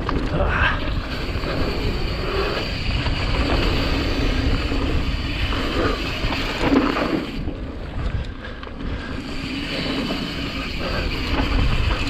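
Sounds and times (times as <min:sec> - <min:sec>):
bike tyres rolling on dirt: 0:00.0 - 0:12.0
wind buffeting microphone: 0:00.0 - 0:12.0.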